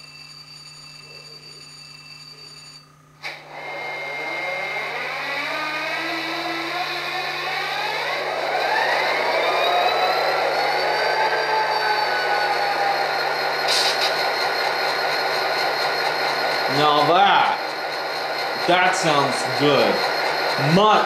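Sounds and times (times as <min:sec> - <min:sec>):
model diesel engine start-up: 0:03.2 - 0:21.0.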